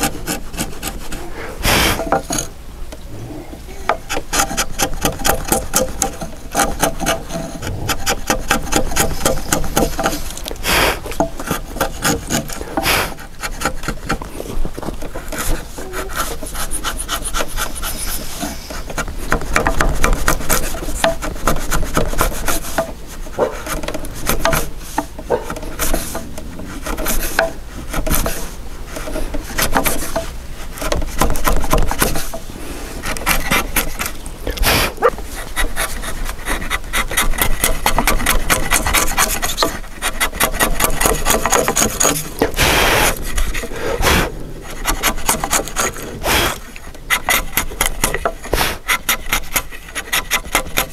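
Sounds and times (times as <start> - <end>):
chisel scraping wood: 0.0 - 3.0, 3.9 - 50.9.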